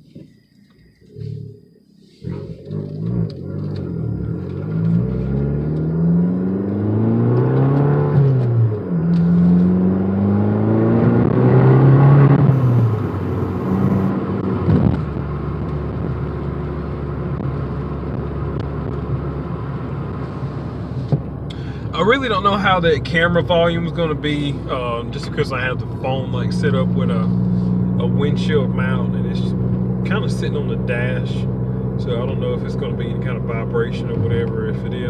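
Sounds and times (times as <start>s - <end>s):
car engine accelerating through gears: 2.2s - 22.8s, 23.6s - 35.0s.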